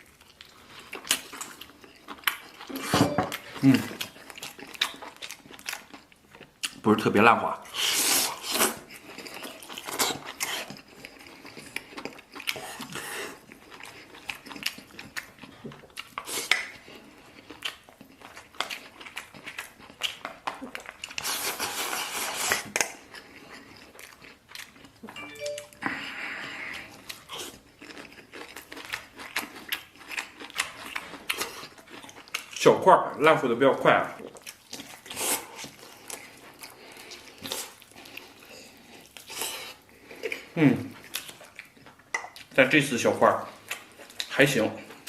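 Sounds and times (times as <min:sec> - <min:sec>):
close-up chewing: 0:00.0 - 0:45.0.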